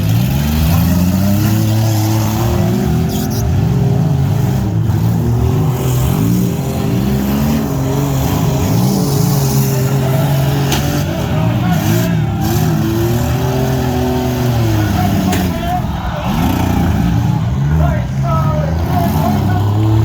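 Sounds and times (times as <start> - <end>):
car engines revving: 0.0 - 20.0
steady engine drone: 0.0 - 20.0.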